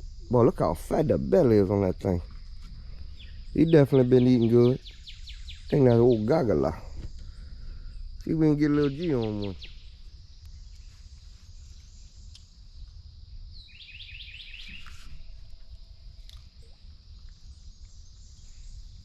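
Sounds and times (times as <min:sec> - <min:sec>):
high insect drone: 0:00.0 - 0:19.0
bird chirping: 0:00.2 - 0:12.9, 0:13.5 - 0:19.0.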